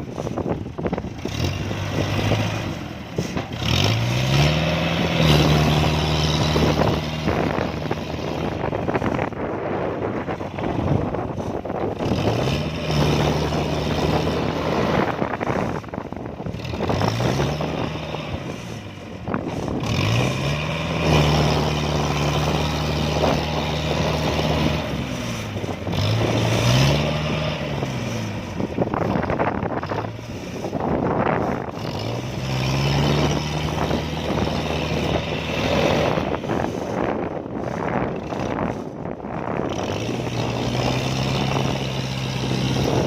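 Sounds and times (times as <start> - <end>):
diesel engine revving: 0.0 - 43.0.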